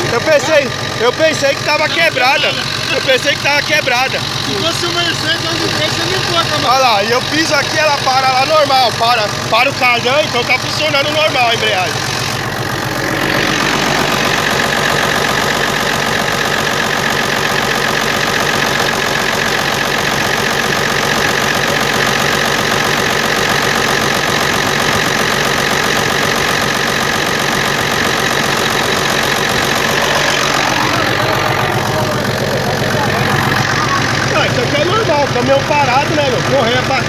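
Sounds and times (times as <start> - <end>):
truck diesel engine idling: 0.0 - 37.0.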